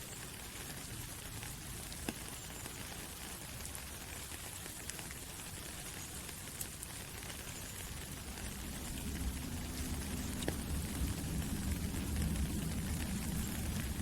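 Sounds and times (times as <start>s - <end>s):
rain falling on leaves: 0.0s - 14.0s
single raindrops ticking: 0.2s - 14.0s.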